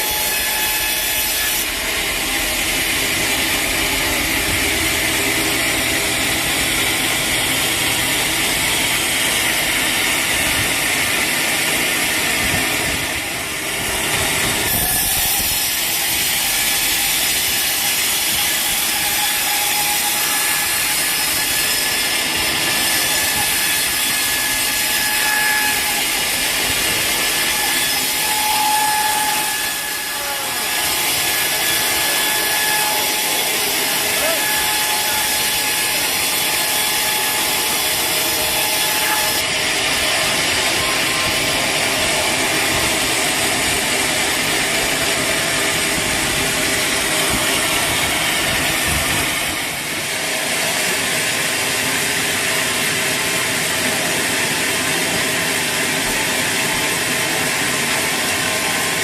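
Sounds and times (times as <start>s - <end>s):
sawmill saw cutting log: 0.0s - 59.0s.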